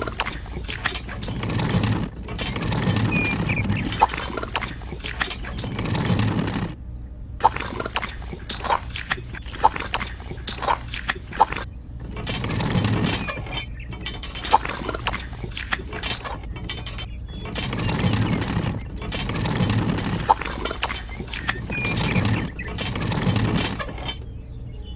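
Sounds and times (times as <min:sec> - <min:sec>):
clatter of small hard parts: 0:00.0 - 0:06.8, 0:09.9 - 0:24.3.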